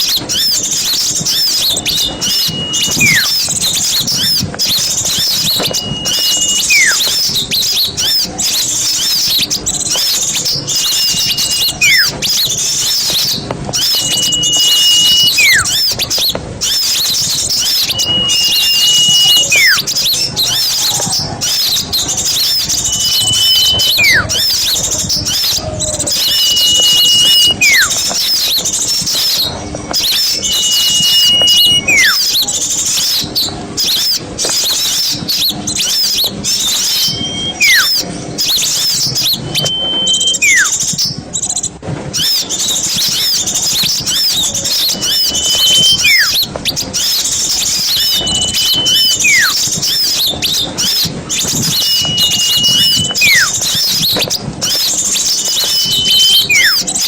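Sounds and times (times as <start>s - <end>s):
falling whistle: 0.0s - 41.1s, 42.2s - 57.0s
songbirds chattering: 0.0s - 57.0s
steady high whistle: 0.3s - 32.5s, 35.8s - 41.0s, 42.2s - 56.9s.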